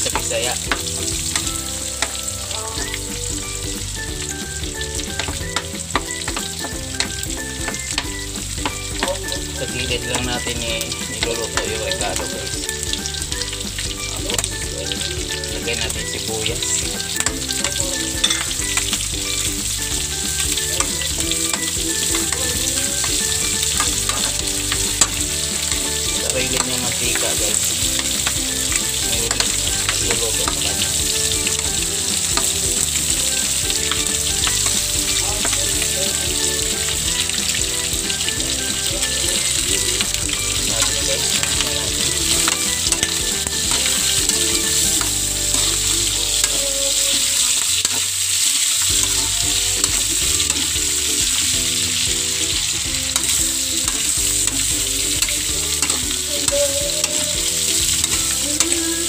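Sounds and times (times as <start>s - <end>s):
meat sizzling in a wok: 0.0s - 59.0s.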